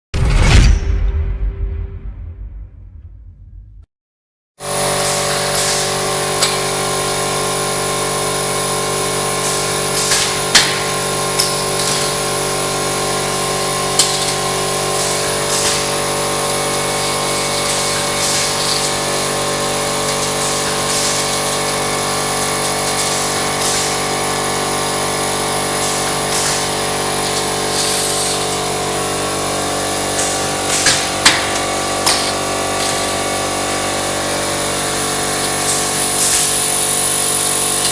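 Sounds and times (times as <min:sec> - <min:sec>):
roll-forming machine humming: 0:04.6 - 0:37.9.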